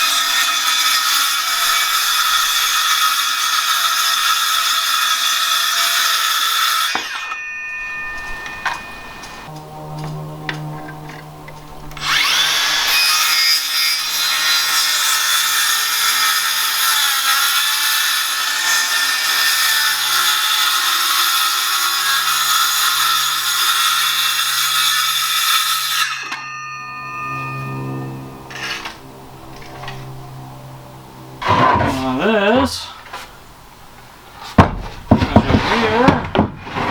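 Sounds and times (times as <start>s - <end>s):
power saw cutting wood: 0.0s - 33.4s, 34.3s - 36.9s.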